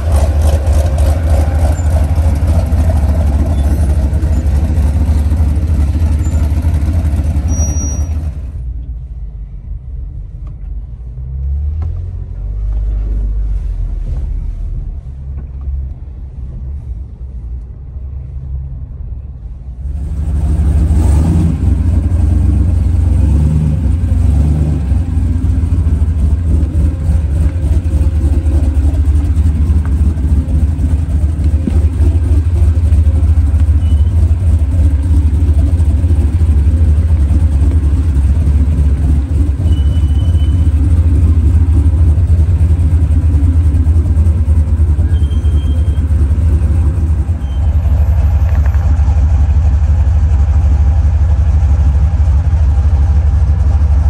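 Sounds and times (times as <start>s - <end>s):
off-road vehicle engine rumbling: 0.0s - 54.0s.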